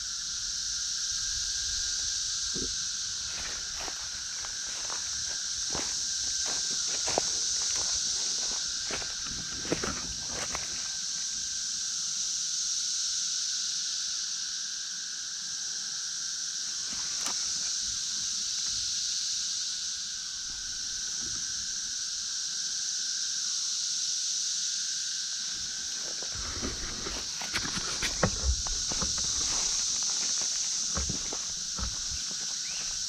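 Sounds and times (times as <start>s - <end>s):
cicadas shrill droning: 0.0s - 33.0s.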